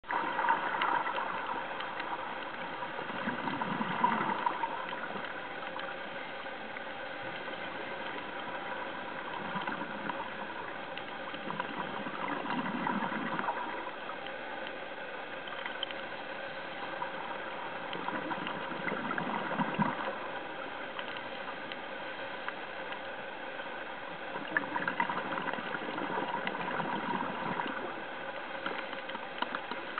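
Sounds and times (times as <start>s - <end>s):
regulator bubbles gurgling: 0.0s - 14.4s, 15.3s - 21.9s, 24.1s - 29.9s
steady hiss with faint crackling: 0.0s - 29.9s.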